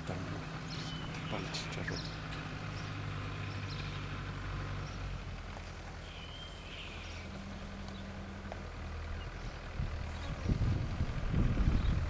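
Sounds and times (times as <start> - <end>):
distant engine hum: 0.0 - 12.0
bird chirp: 0.4 - 10.6, 11.6 - 12.0.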